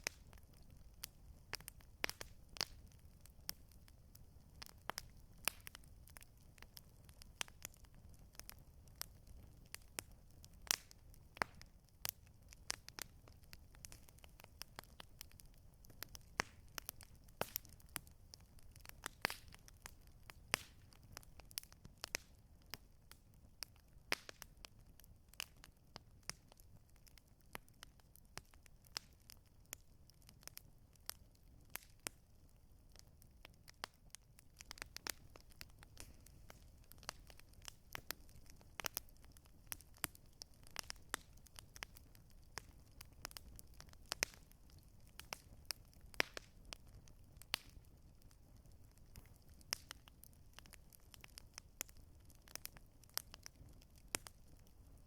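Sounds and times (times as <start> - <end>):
campfire popping and snapping: 0.0 - 55.0
low fire rumble: 0.0 - 55.0.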